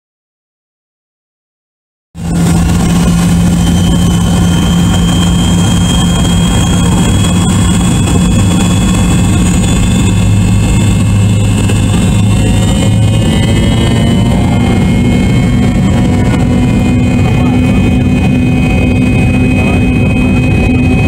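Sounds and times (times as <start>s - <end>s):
high engine whine: 2.2s - 21.0s
jet engines running steadily: 2.2s - 21.0s.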